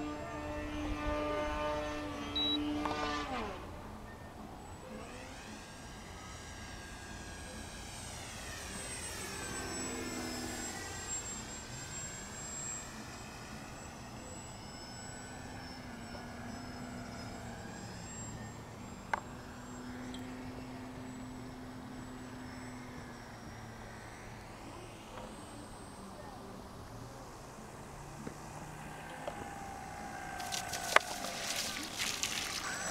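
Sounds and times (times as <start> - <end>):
model plane motor whining: 0.0 - 32.9.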